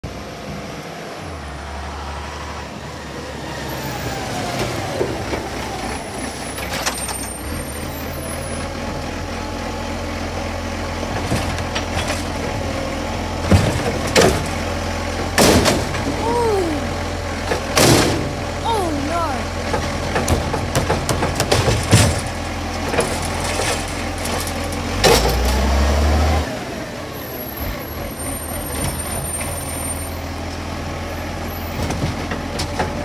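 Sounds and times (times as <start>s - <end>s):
diesel truck engine running: 0.1s - 33.0s.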